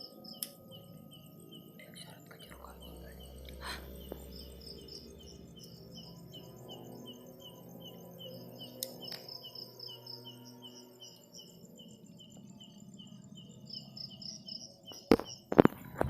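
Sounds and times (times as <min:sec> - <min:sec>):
crickets chirping: 0:00.0 - 0:16.0
faint low hum: 0:00.0 - 0:16.0
higher insect chirping: 0:00.0 - 0:16.0.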